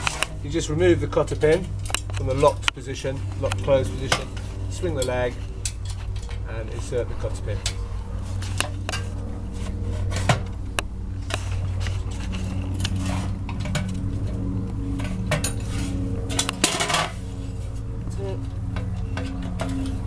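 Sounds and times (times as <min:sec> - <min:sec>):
metal clinks and rattles: 0:01.4 - 0:20.0.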